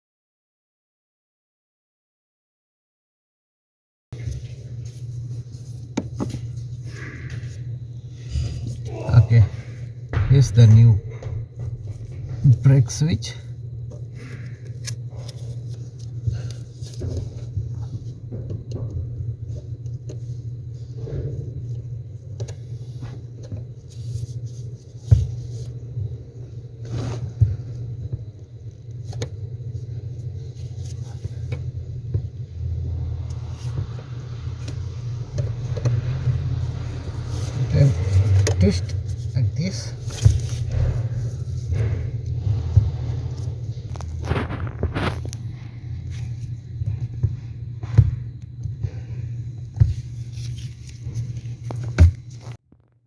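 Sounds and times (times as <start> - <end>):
steady low rumble: 4.2 - 52.6
steady low hum: 4.2 - 53.0.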